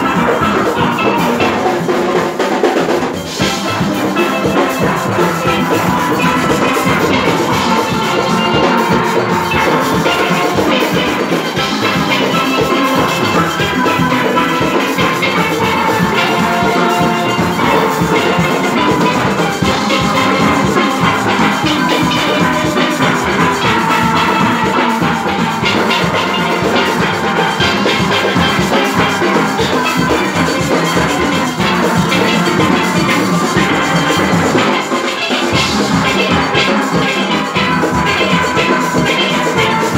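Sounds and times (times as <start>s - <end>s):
drum percussion: 0.0s - 39.9s
steel band playing: 0.0s - 39.9s.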